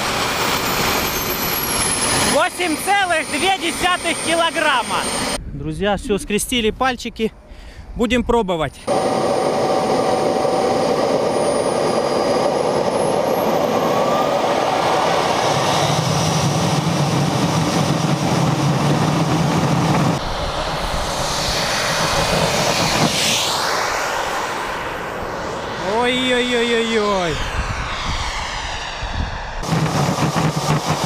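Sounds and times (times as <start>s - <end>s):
jet engine whine: 0.0s - 5.5s, 8.8s - 31.0s.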